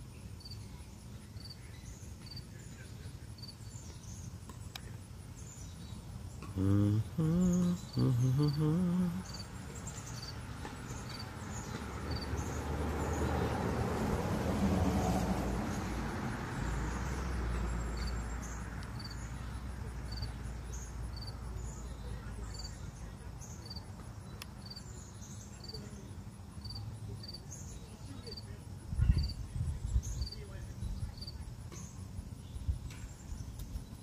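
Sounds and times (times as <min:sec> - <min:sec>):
insect chirping: 0:00.0 - 0:13.7, 0:15.4 - 0:34.0.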